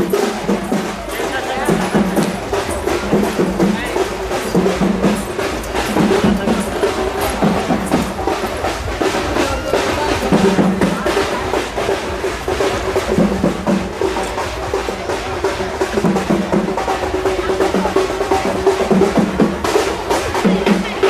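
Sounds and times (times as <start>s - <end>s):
deep drum beats: 0.0s - 21.0s
fast drumming: 0.0s - 21.0s.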